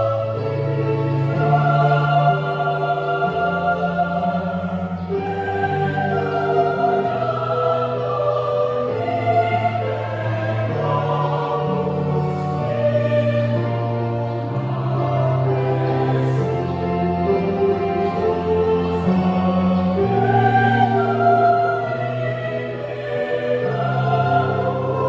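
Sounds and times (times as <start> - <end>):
youth choir singing: 0.0 - 25.0.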